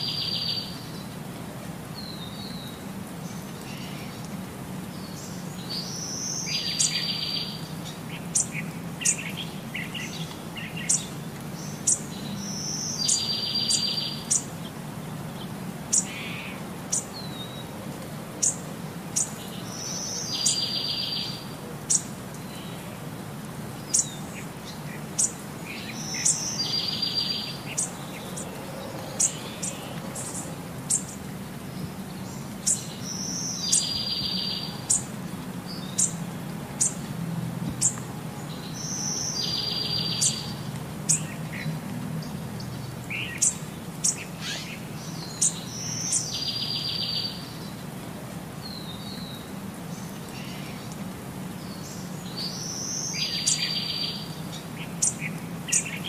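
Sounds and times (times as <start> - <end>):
birds chirping and trilling: 0.0 - 1.2, 4.9 - 17.7, 18.4 - 22.8, 23.8 - 36.2, 37.8 - 47.8, 51.6 - 56.0.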